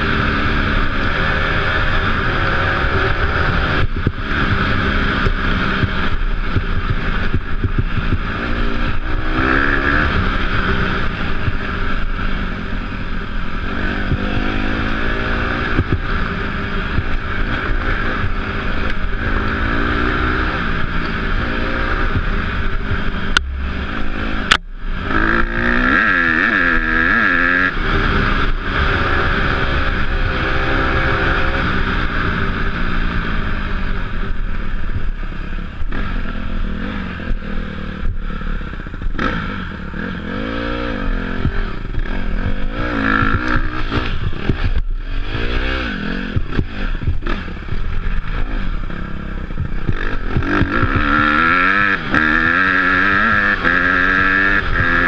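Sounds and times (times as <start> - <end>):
dirt bike engine revving: 0.0 - 34.5, 35.4 - 55.0.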